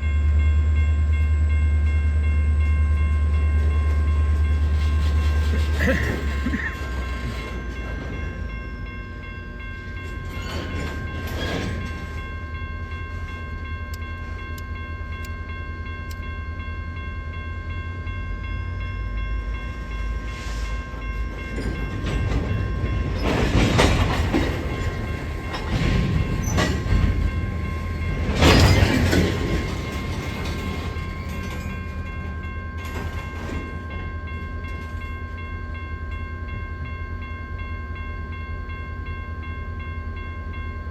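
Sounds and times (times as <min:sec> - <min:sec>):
train passing rumble: 0:00.0 - 0:40.9.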